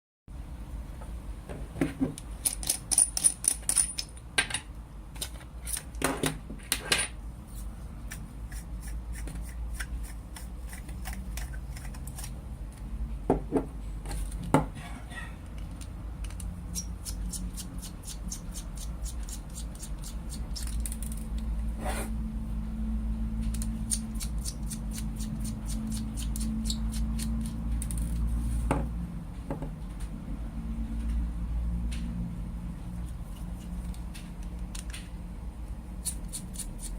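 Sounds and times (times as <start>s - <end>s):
low steady hum: 0.3s - 36.9s.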